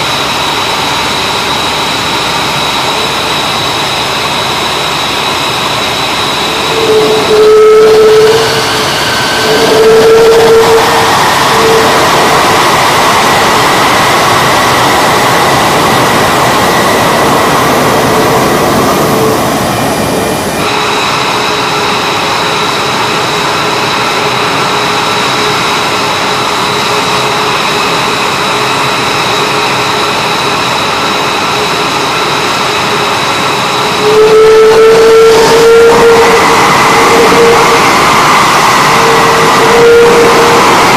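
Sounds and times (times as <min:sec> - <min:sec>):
jet engines idling: 0:00.0 - 0:34.2, 0:35.3 - 0:40.9.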